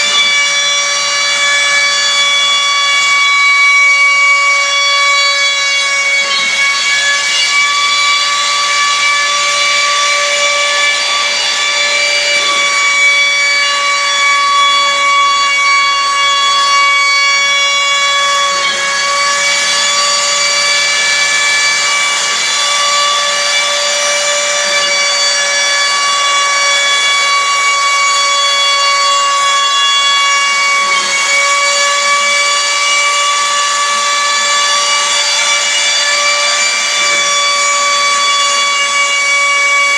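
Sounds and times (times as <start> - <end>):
router cutting wood: 0.0 - 39.9
router spindle whining: 0.0 - 39.9.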